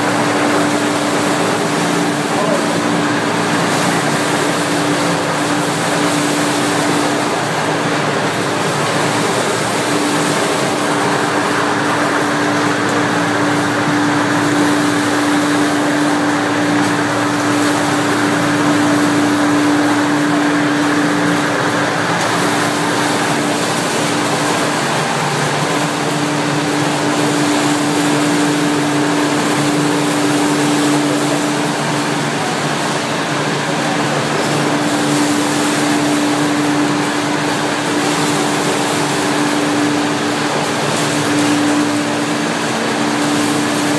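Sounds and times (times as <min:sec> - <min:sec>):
constant hum: 0:00.0 - 0:43.9
loud mechanical drone: 0:00.0 - 0:43.9.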